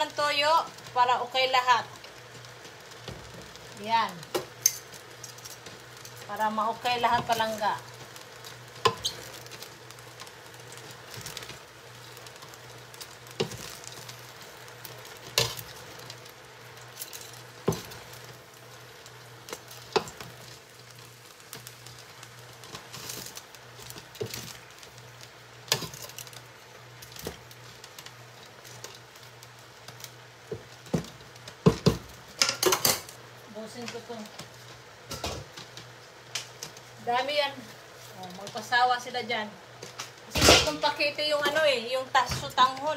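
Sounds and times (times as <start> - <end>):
noodles sizzling in a pot: 0.0 - 42.9.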